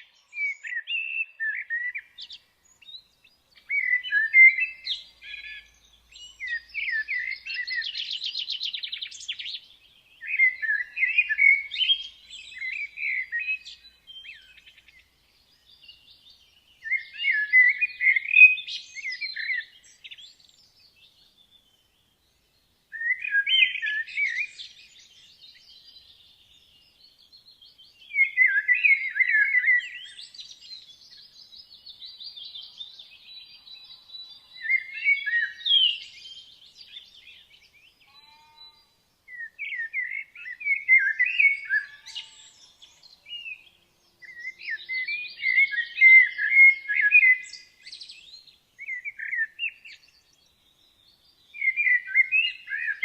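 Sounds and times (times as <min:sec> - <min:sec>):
faint birdsong: 0:00.0 - 0:53.0.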